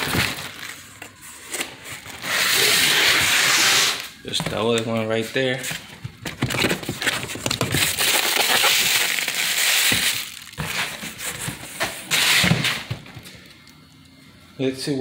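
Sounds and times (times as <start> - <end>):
cardboard and plastic rustling: 0.0 - 3.4, 4.2 - 13.8.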